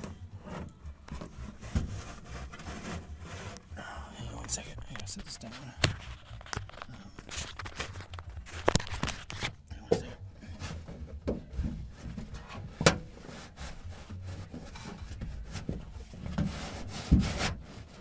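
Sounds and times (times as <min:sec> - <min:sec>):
rubber ball rubbing and scraping: 0:00.0 - 0:18.0.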